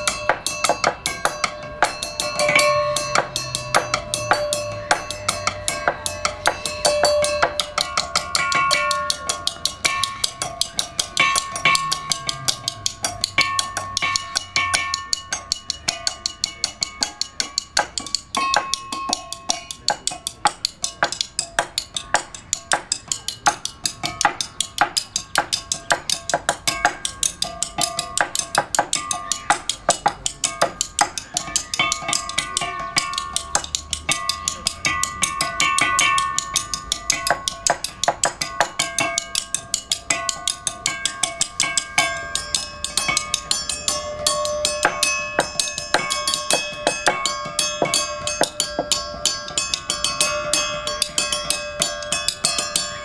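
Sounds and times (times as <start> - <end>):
mallets striking pitched poles: 0.0 - 53.0.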